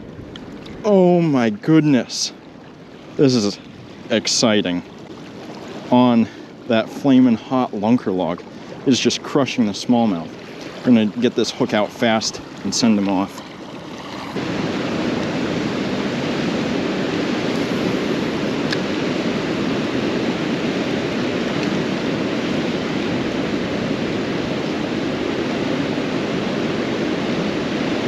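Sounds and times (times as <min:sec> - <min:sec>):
river water pouring over dam: 0:00.0 - 0:28.0.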